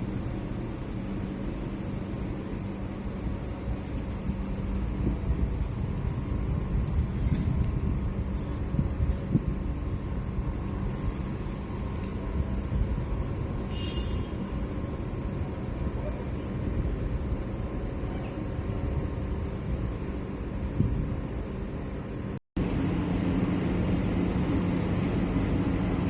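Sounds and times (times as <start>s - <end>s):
low rumble of street noise: 0.0s - 26.0s.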